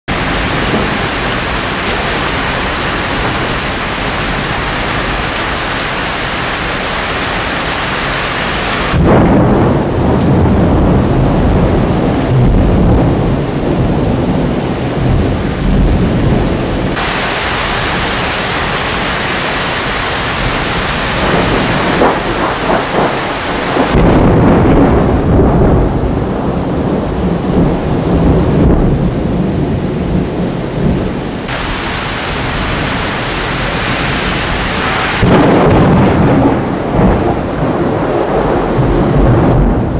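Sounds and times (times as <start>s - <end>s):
heavy rain hissing: 0.1s - 39.9s
thunder clap rumbling: 0.1s - 39.9s.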